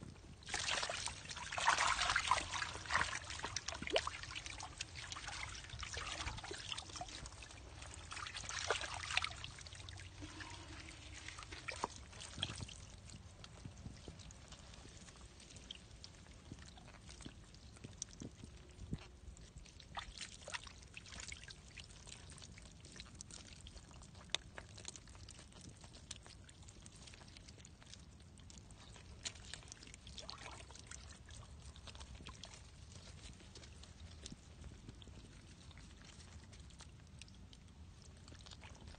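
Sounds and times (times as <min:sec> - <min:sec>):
fish wriggling in mud: 0:00.0 - 0:38.9.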